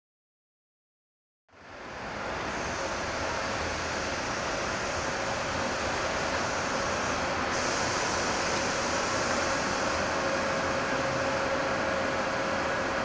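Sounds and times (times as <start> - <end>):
electric locomotive hum: 1.5 - 13.0
rail and machinery noise: 1.5 - 13.0.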